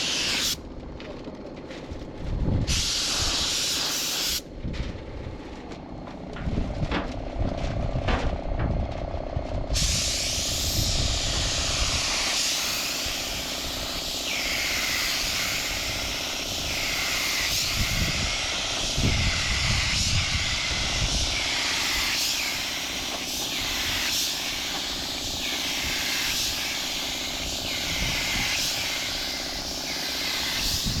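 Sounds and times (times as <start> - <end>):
steady motor noise: 4.4 - 31.0.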